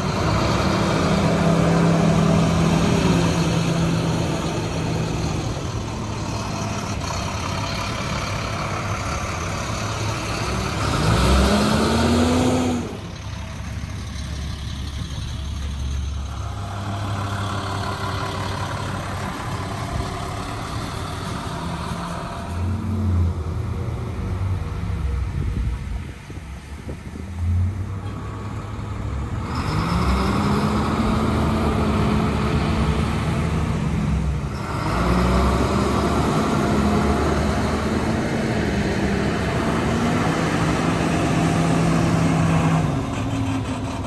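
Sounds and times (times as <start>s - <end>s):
bus engines driving past: 0.0s - 44.0s.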